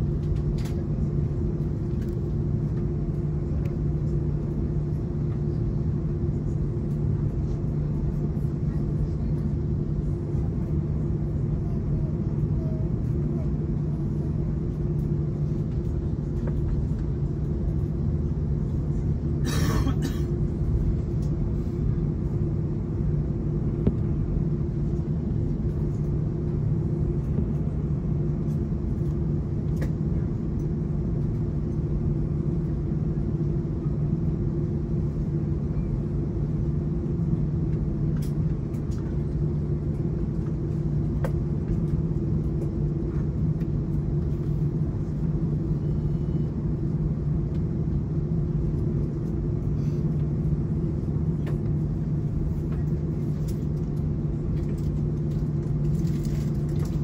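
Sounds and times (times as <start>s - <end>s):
aircraft cabin engine hum: 0.0s - 57.0s.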